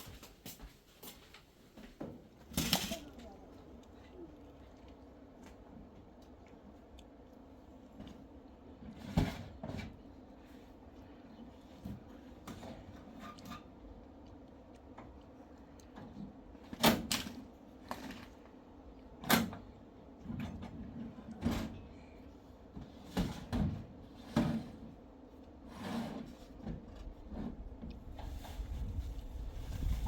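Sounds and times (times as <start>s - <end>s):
faint steady background noise: 0.0s - 30.0s.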